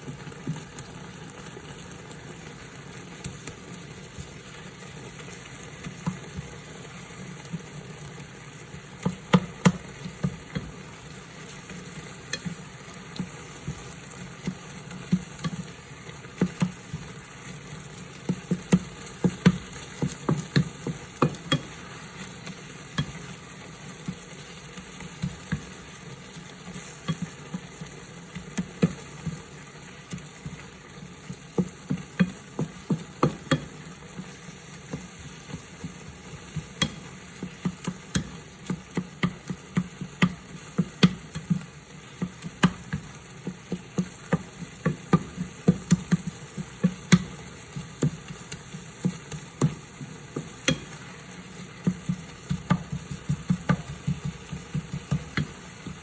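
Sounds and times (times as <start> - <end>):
faint food sizzle: 0.0 - 56.0
wooden spatula scraping pan: 9.0 - 56.0.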